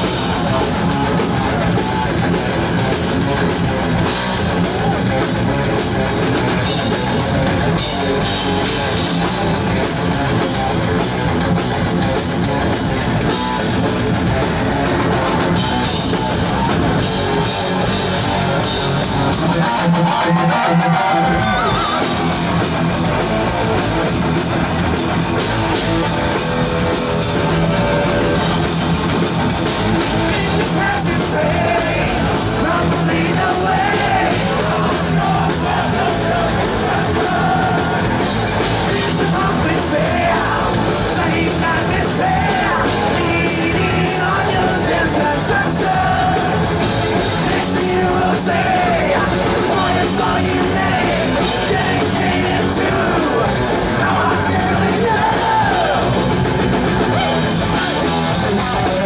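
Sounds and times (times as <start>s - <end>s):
bass guitar: 0.0s - 59.0s
distorted electric guitars: 0.0s - 59.0s
drum kit: 0.0s - 59.0s.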